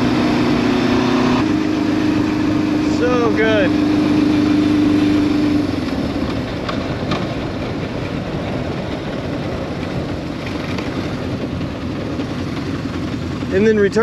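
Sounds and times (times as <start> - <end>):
motorcycle engine revving down: 0.0 - 14.0.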